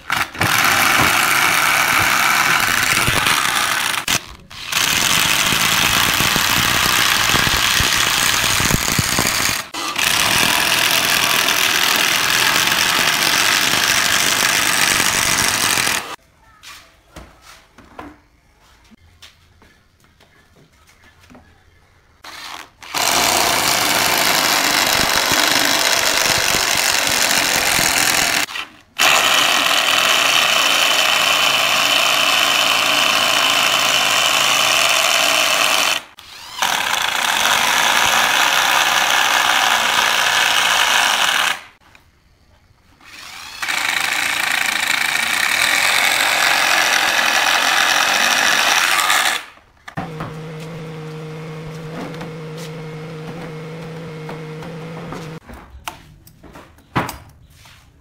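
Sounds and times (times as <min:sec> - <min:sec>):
electric drill boring through wood: 0:00.0 - 0:16.2, 0:22.2 - 0:41.8, 0:43.0 - 0:55.4.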